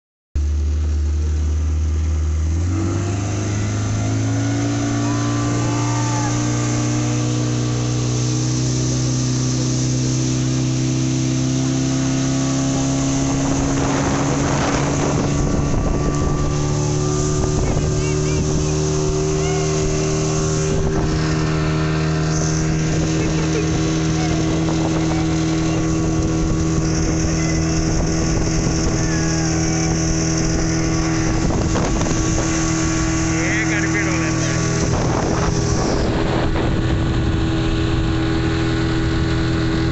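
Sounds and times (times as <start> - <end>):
speedboat engine humming: 0.4 - 39.9
rushing water and wind: 1.5 - 39.9.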